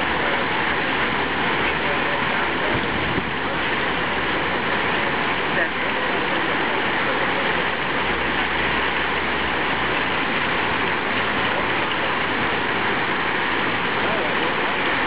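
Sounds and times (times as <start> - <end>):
fountain water splashing into pool: 0.0 - 15.0.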